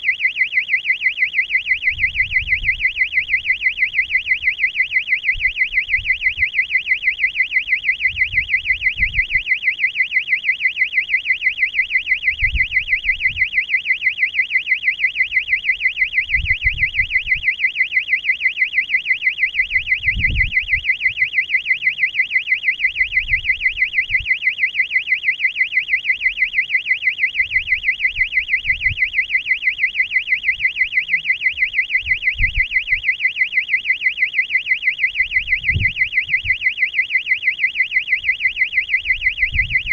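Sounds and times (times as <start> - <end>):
warbling electronic alarm buzzer: 0.0 - 39.9.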